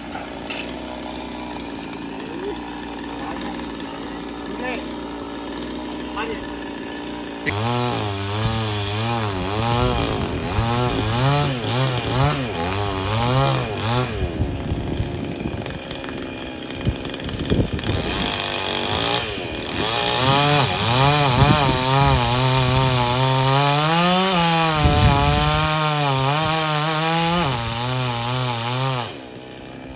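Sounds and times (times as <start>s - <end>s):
chainsaw cutting: 0.0s - 29.9s
wood cracking: 0.0s - 29.9s.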